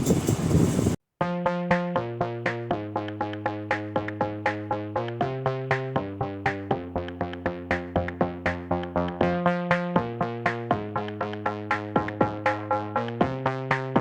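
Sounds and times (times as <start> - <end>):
drum machine beat: 1.2 - 14.0
synthesizer chords: 1.2 - 14.0.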